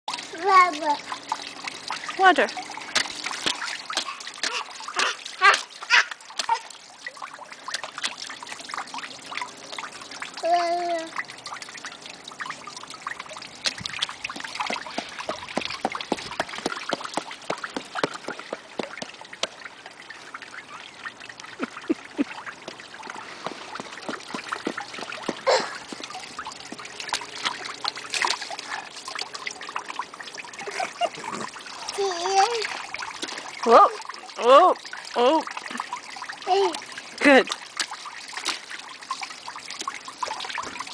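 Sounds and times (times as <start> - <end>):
rainwater dripping into drain: 0.1 - 40.9
water splash: 0.8 - 10.3, 11.2 - 40.9.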